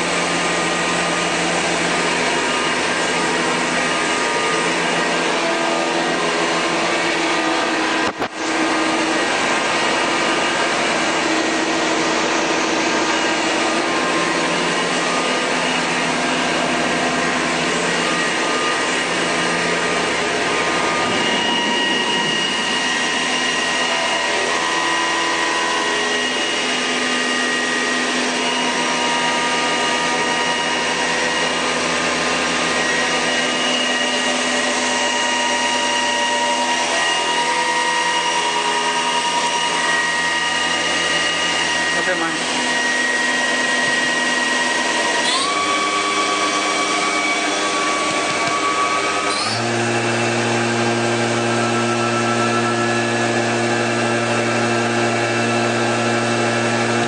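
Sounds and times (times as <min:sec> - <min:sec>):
machinery whirring with whining tones: 0:00.0 - 0:57.0.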